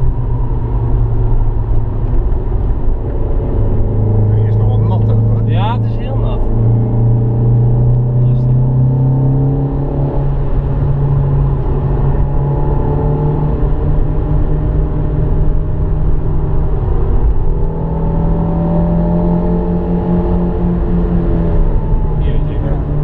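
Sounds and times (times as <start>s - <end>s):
car engine at high revs: 0.0s - 23.0s
road rumble: 0.0s - 23.0s.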